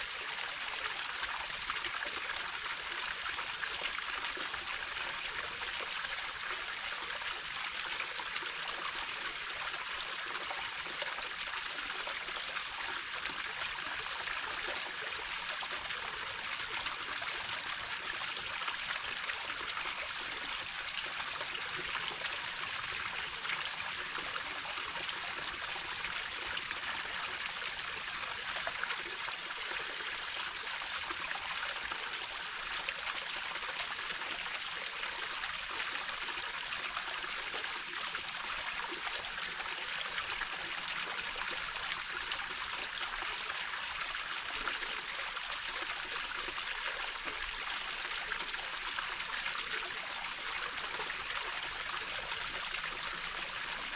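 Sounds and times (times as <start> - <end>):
brook babbling over rocks: 0.0 - 53.9.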